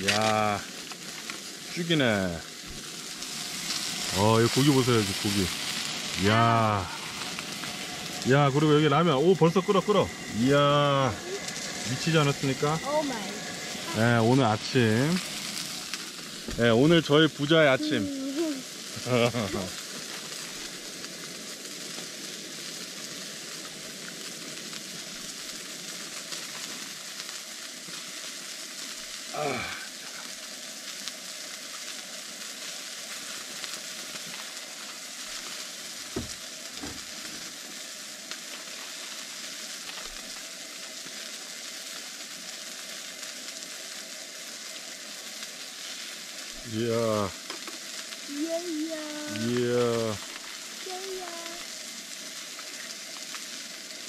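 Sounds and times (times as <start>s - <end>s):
steak sizzling: 0.0s - 54.0s.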